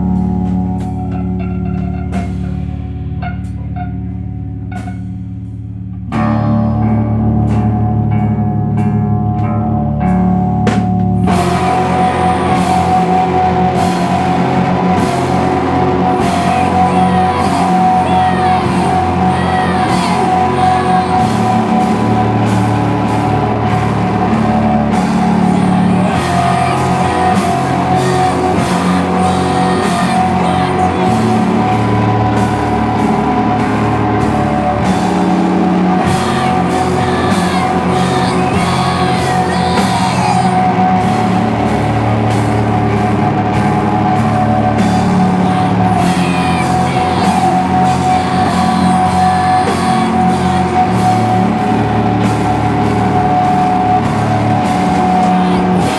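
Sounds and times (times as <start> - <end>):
bass guitar: 0.0 - 55.9
distorted guitar chords: 0.0 - 55.9
drums: 0.0 - 55.9.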